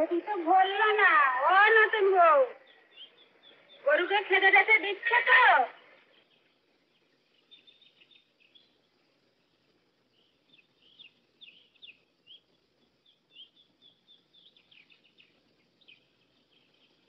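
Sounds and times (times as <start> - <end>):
low hiss: 0.0 - 17.0
small birds chirping: 0.0 - 17.0.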